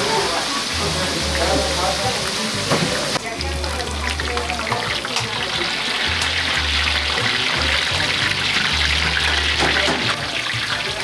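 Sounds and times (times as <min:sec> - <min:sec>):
background music bass notes: 0:00.0 - 0:11.0
hot oil sizzling and crackling: 0:00.0 - 0:11.0.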